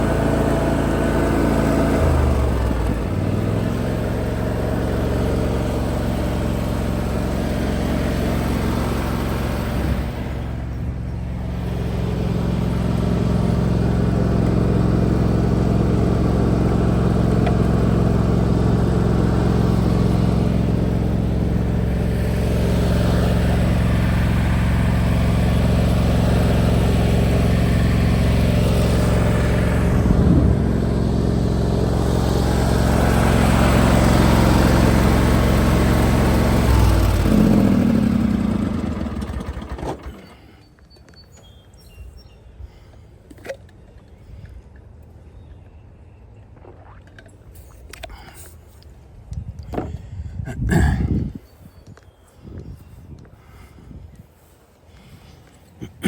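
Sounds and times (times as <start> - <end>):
riding lawn mower engine running: 0.0 - 50.2.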